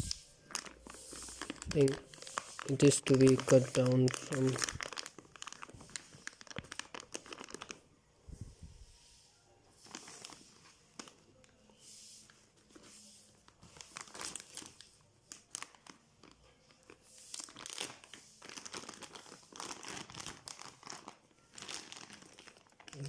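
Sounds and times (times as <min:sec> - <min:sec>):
packaging crinkling and tearing: 0:00.0 - 0:07.8, 0:09.8 - 0:11.5, 0:13.5 - 0:23.0.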